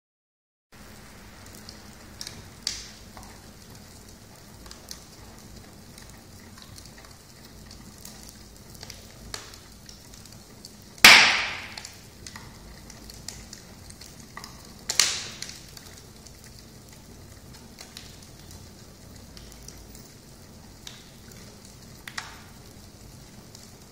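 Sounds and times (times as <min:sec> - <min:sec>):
wood fire hissing and crackling: 0:00.7 - 0:23.9
burning logs popping: 0:00.8 - 0:23.9.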